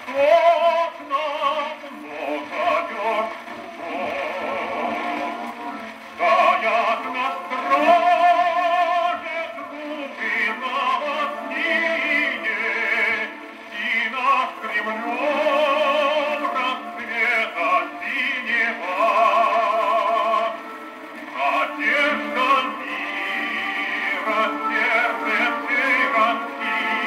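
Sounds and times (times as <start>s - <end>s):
gramophone playing operatic singing: 0.0s - 27.0s.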